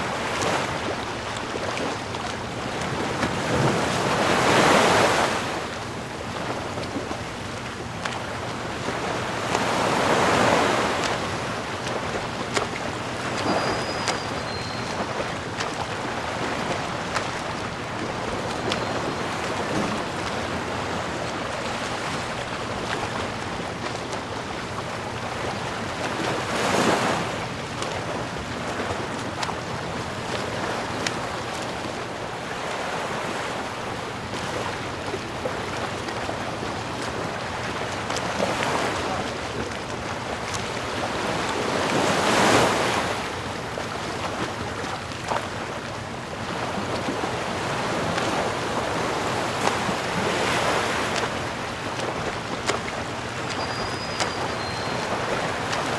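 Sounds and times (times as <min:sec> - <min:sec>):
sea waves washing onto shore: 0:00.0 - 0:55.9.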